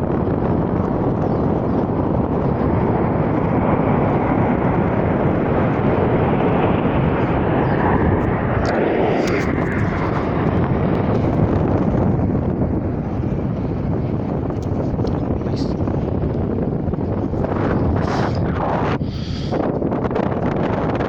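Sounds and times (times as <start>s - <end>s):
military aircraft engine roar: 0.0s - 21.0s.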